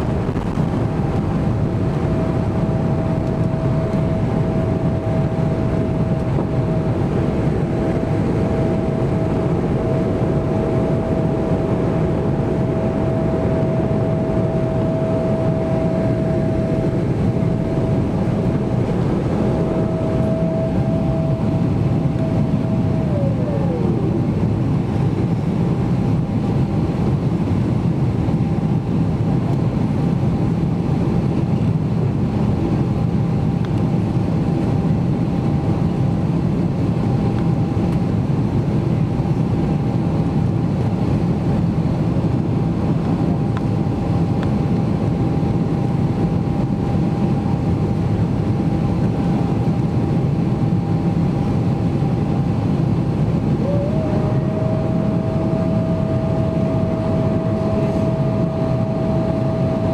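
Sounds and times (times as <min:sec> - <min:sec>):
airplane cabin roar: 0:00.0 - 0:59.9
thin steady whine: 0:00.0 - 0:59.9.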